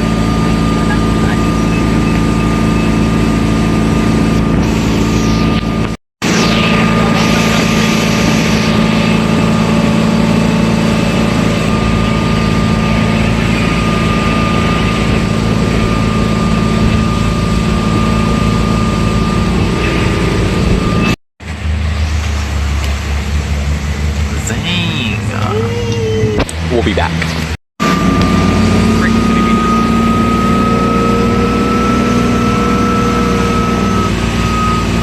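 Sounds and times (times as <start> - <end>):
boat engine running: 0.0 - 35.0
lower hum: 0.0 - 35.0.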